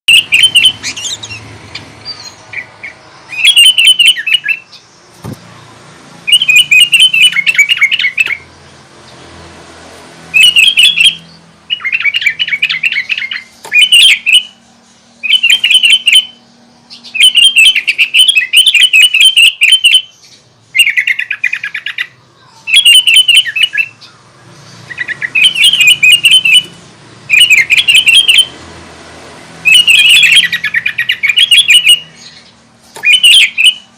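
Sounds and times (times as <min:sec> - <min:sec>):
bird singing chattering phrases: 0:00.1 - 0:09.3, 0:10.3 - 0:28.8, 0:29.5 - 0:33.9.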